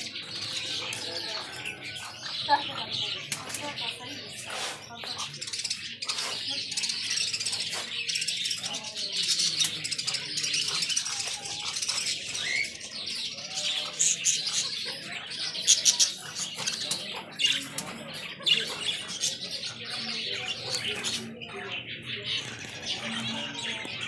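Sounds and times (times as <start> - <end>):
birds chirping and twittering: 0.0 - 24.0.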